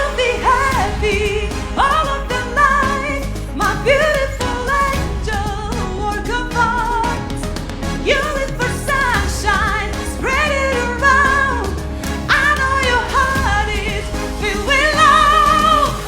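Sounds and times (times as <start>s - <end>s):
instrumental backing: 0.0s - 16.0s
woman singing pop song: 0.0s - 16.0s.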